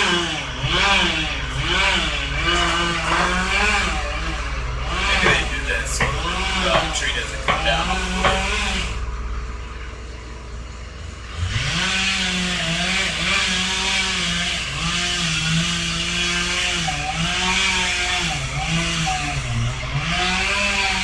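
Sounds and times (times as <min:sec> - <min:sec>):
chainsaw cutting: 0:00.0 - 0:09.0, 0:11.2 - 0:21.0.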